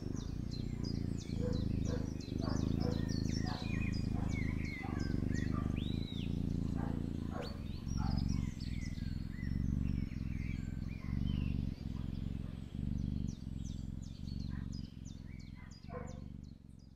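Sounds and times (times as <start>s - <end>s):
kitten purring: 0.0s - 16.9s.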